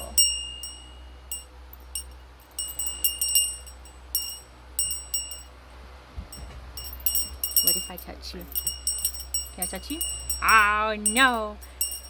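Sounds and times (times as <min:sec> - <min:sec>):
small metal bell ringing: 0:00.0 - 0:05.6, 0:06.3 - 0:12.0.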